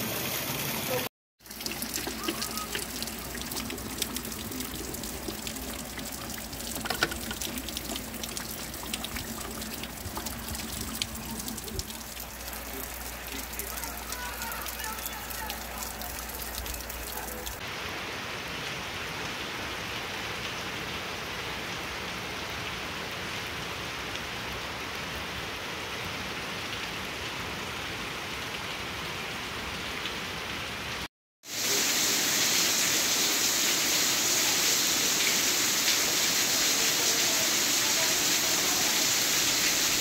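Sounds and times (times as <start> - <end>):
heavy rain falling: 0.0 - 27.8, 31.5 - 40.0.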